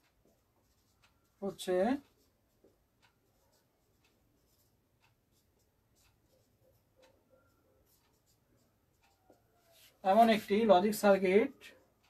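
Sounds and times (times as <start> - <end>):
marker pen writing on whiteboard: 0.0 - 12.0.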